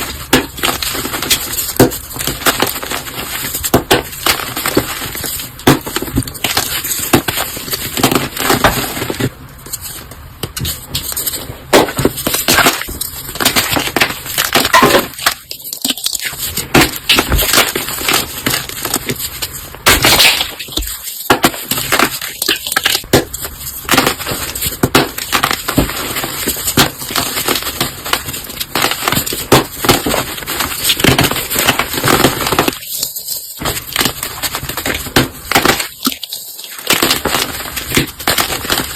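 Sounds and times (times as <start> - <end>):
brittle material crunching: 0.0 - 38.9.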